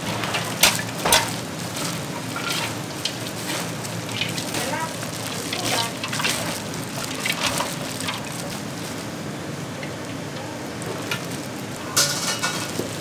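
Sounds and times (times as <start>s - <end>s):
chicken feet sizzling on grill: 0.0s - 13.0s
fire crackling: 0.0s - 13.0s.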